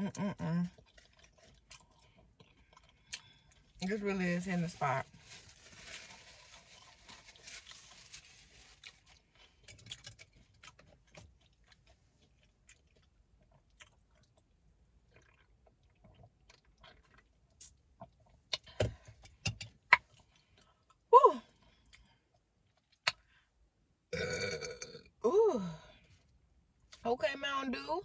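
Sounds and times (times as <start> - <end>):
taco crunching while chewed: 0.6 - 3.9, 5.1 - 23.4, 24.2 - 25.0.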